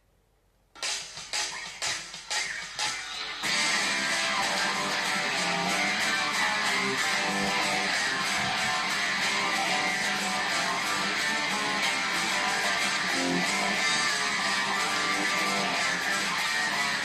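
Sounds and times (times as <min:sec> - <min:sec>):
electric guitar strumming chords: 0:00.8 - 0:17.0.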